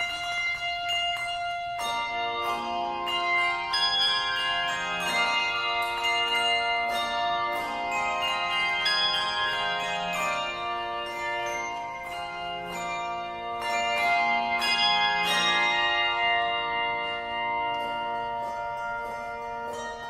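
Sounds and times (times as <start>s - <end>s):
tuned bells playing melody: 0.0s - 20.0s.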